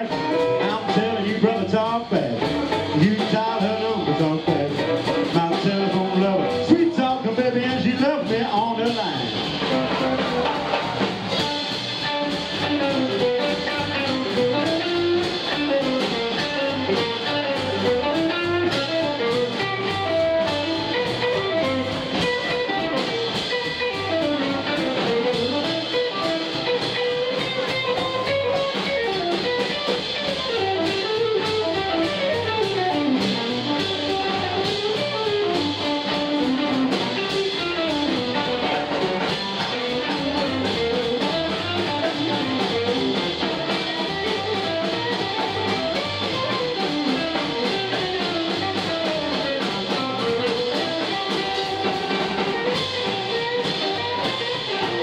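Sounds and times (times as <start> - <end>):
electric guitar melody: 0.0 - 55.0
instrumental blues band: 0.0 - 55.0.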